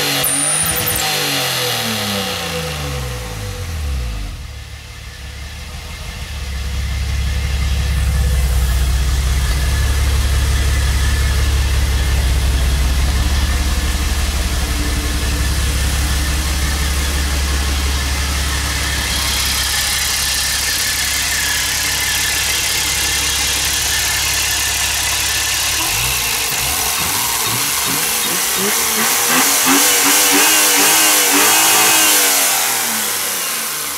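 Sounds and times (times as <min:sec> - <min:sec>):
car engine deep drone: 0:00.0 - 0:33.9.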